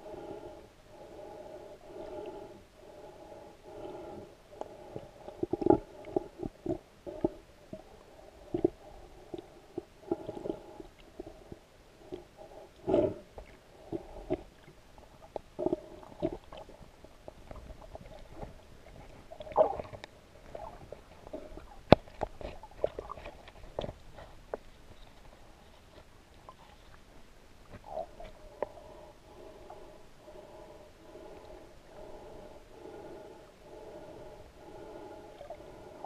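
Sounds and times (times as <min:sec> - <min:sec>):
muffled underwater water movement: 0:00.0 - 0:36.0.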